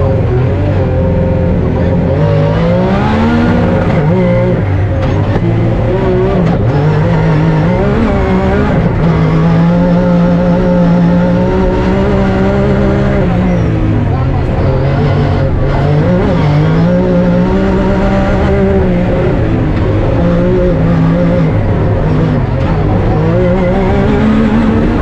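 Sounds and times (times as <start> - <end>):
car engine revving under load: 0.0 - 25.0.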